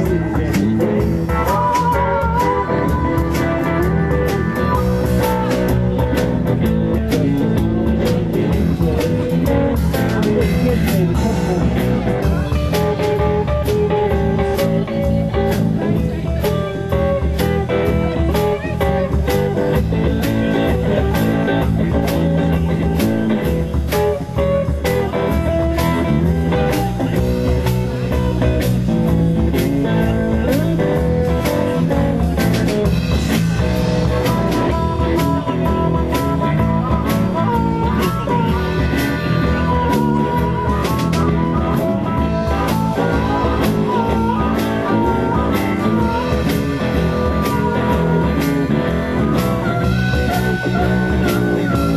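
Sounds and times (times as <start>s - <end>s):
blues guitar: 0.0s - 51.9s
drum kit beat: 0.0s - 51.9s.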